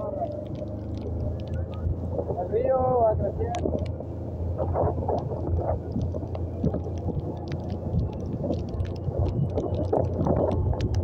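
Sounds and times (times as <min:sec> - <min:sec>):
motorcycle riding: 0:00.0 - 0:11.0
wind buffeting microphone: 0:00.0 - 0:11.0.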